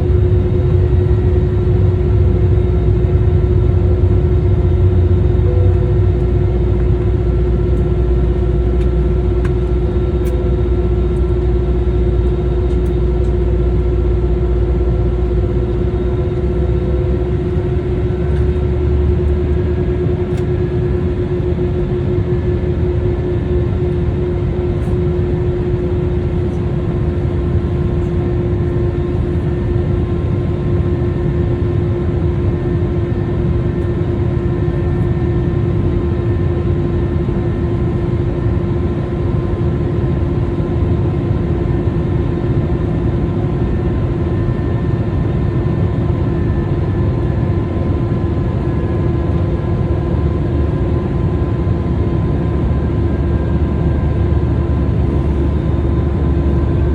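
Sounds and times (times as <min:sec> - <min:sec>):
jet engines rumbling in cabin: 0:00.0 - 0:56.9.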